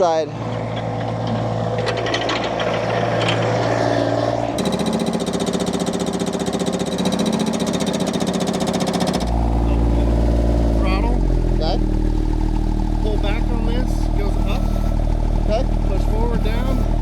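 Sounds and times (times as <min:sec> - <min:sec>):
hydraulic breaker hammering: 0:00.0 - 0:17.0
skid steer engine running: 0:00.0 - 0:17.0.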